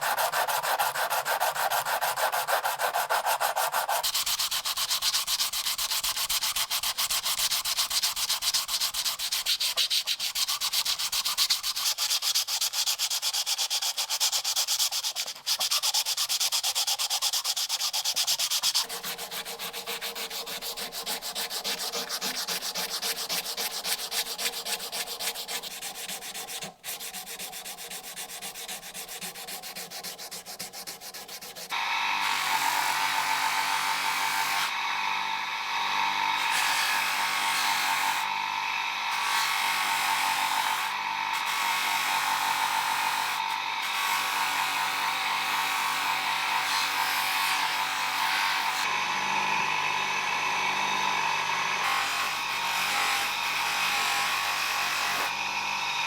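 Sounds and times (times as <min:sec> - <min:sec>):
sanding metal: 0:00.0 - 0:34.7, 0:39.1 - 0:48.9, 0:51.8 - 0:55.4.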